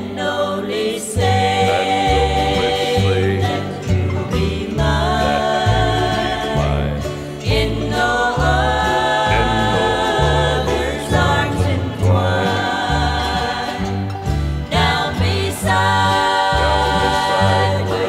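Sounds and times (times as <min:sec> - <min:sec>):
country music: 0:00.0 - 0:18.0.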